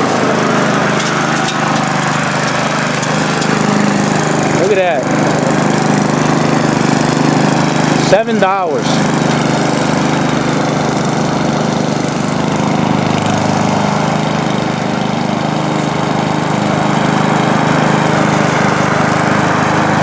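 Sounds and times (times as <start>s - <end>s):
lawn mower engine cutting grass: 0.0s - 20.0s.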